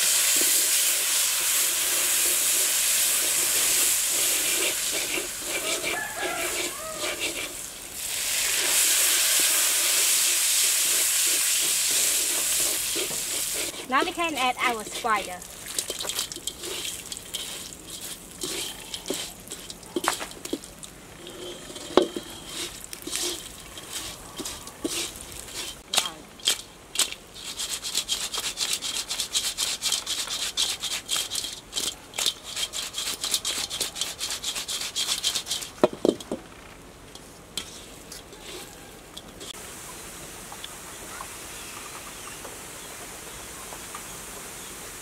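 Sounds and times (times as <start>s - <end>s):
spatula scraping a metal wok: 0.0s - 7.8s, 8.4s - 36.3s, 37.1s - 39.6s.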